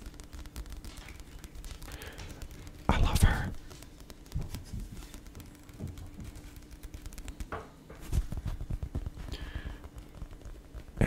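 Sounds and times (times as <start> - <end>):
fingers tapping on book cover: 0.0 - 11.0.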